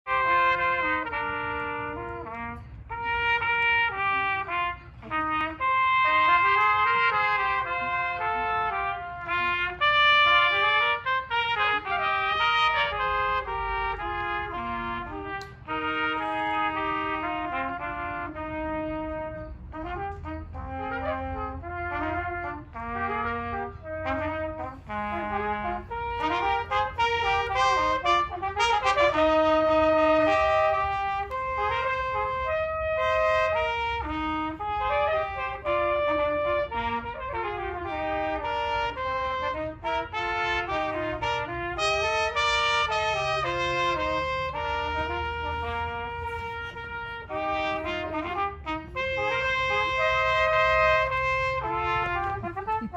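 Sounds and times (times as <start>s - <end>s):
trombone playing melody: 0.0s - 52.9s
trumpet playing melody: 0.0s - 52.9s.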